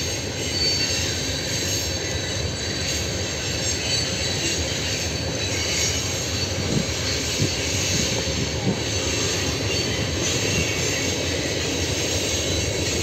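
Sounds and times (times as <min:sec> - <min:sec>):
train wheels rumbling on rail: 0:00.0 - 0:13.0
wheels squealing: 0:00.0 - 0:13.0.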